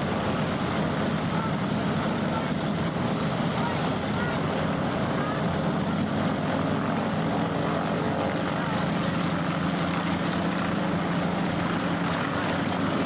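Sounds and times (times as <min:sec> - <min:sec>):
aircraft engine droning: 0:00.0 - 0:13.0.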